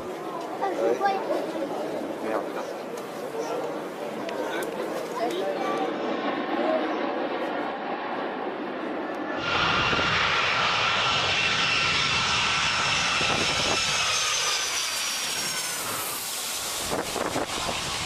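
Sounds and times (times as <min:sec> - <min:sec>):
aircraft engine roaring past: 0:00.1 - 0:18.0.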